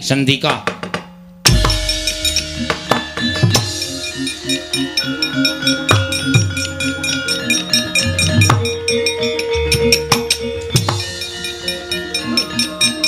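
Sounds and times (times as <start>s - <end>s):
gamelan playing: 1.4s - 13.0s.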